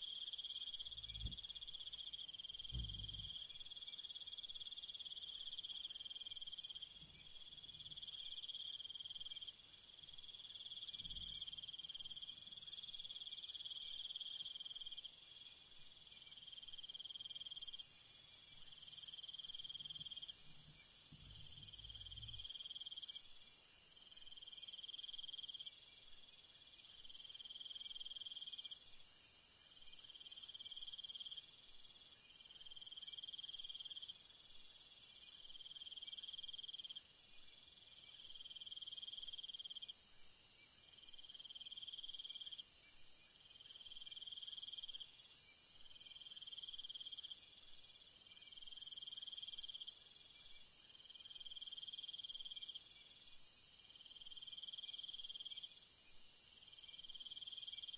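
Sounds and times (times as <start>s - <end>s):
lower insect trill: 0.0s - 57.9s.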